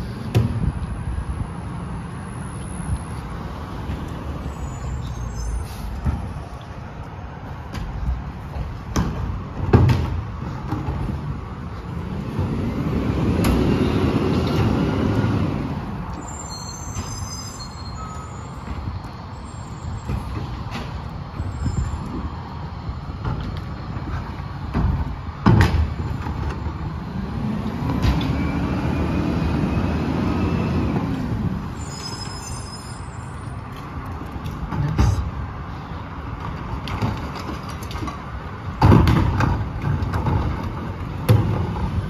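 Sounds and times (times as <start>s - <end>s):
garbage truck diesel engine: 0.0s - 42.0s.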